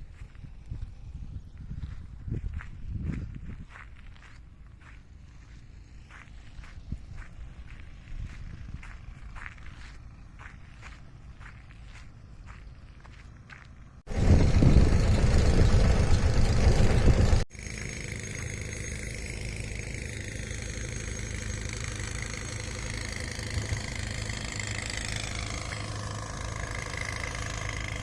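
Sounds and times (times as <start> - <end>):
vehicle engine idling: 4.0 - 28.0.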